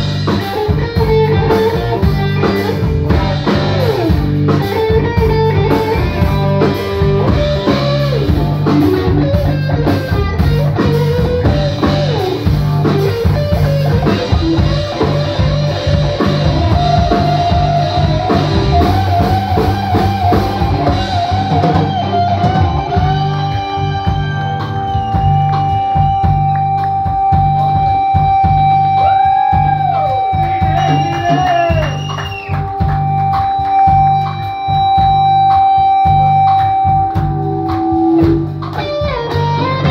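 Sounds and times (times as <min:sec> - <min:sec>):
bass guitar: 0:00.0 - 0:39.9
drum kit: 0:00.0 - 0:39.9
electric guitar solo: 0:00.0 - 0:39.9.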